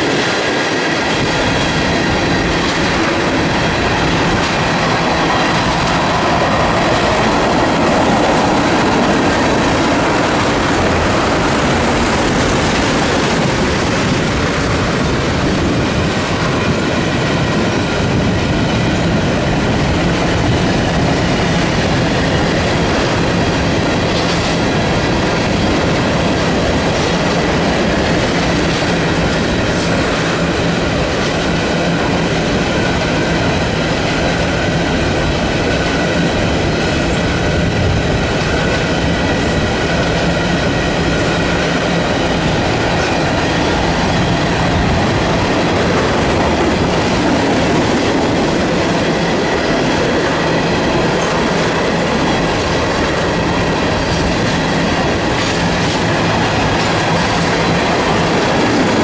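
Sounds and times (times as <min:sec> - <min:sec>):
train wheels clattering on rail: 0:00.0 - 0:59.0.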